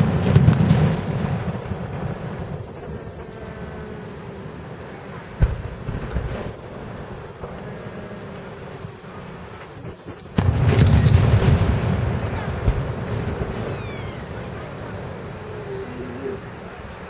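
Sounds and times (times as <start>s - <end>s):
firework boom: 0.0s - 17.0s
fireworks rumbling and crackling: 0.0s - 17.0s.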